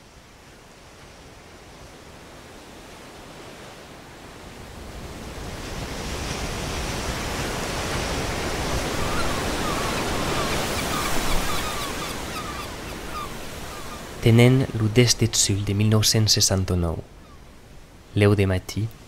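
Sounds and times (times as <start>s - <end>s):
sea waves and surf: 0.0s - 19.0s.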